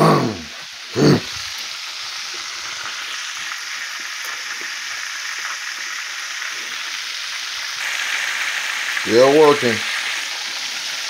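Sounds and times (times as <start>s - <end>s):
chicken sizzling in hot oil: 0.5s - 11.0s.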